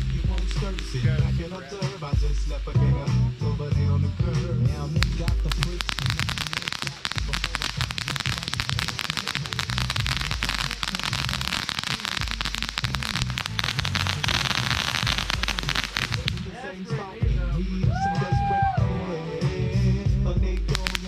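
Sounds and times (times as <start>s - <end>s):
firework hiss: 0.0s - 17.7s, 20.6s - 21.0s
firework crackling: 0.0s - 17.8s, 19.2s - 21.0s.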